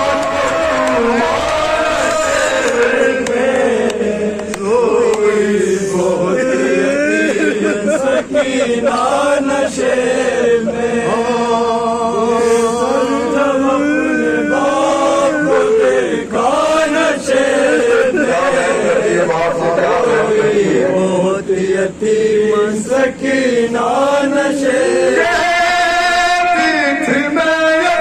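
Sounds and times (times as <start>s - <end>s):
man singing lament into microphone: 4.4s - 28.0s.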